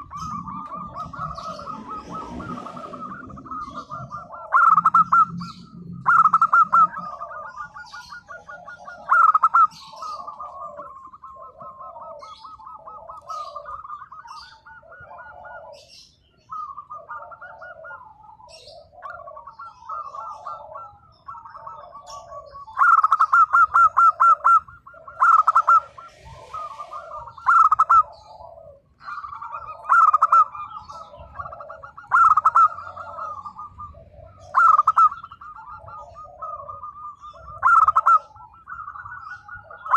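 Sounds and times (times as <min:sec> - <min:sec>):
dove cooing: 0:00.0 - 0:39.9
rapid bird notes: 0:00.0 - 0:39.9.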